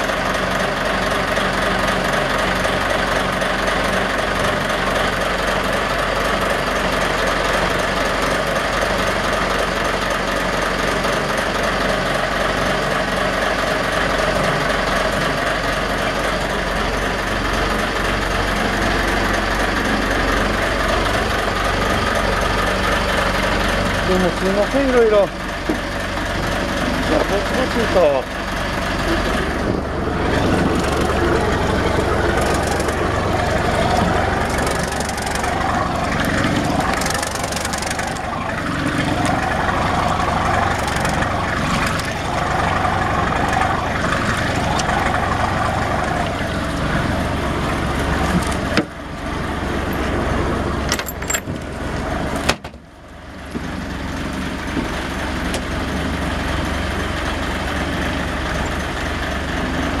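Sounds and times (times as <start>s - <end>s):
diesel engine idling: 0.0s - 60.0s
propeller churning water: 0.0s - 60.0s.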